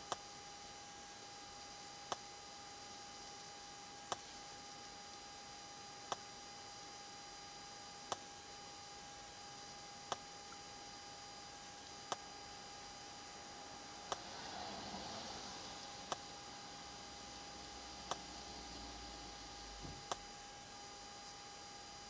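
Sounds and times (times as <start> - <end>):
low steady hiss: 0.1 - 22.0.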